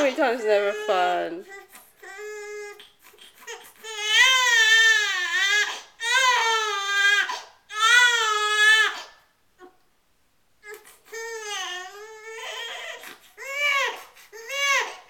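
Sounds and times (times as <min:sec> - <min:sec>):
infant crying: 0:00.0 - 0:09.7, 0:10.6 - 0:15.0.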